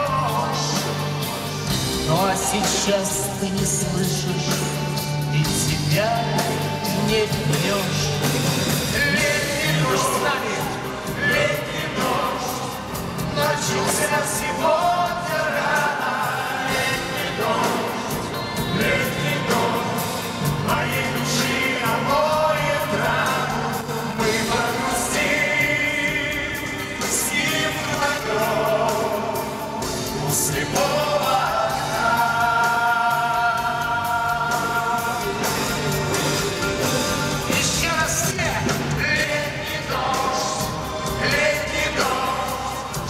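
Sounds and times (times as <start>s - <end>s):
male choir singing: 0.0s - 43.0s
steady bass line: 0.0s - 43.0s.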